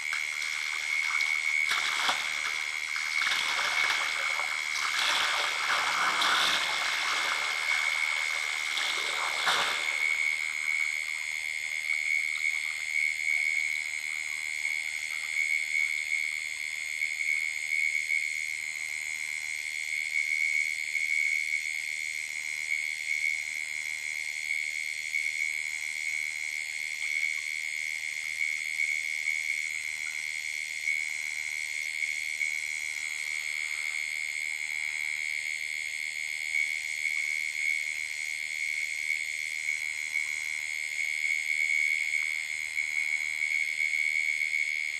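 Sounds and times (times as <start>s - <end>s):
insects and frogs calling: 0.0s - 44.9s.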